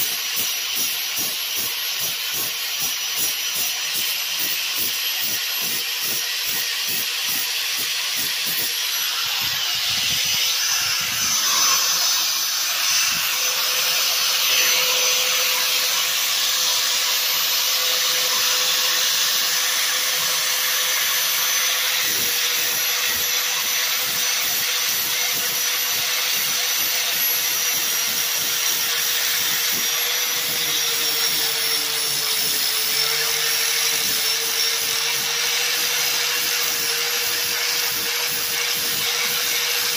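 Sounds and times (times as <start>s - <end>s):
angle grinder whining: 0.0s - 39.9s.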